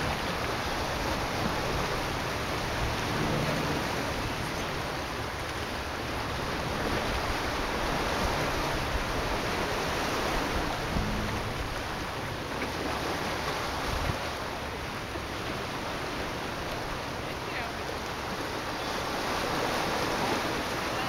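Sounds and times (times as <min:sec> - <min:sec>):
waves washing against rocks: 0:00.0 - 0:21.0
wind rumbling on microphone: 0:00.0 - 0:21.0.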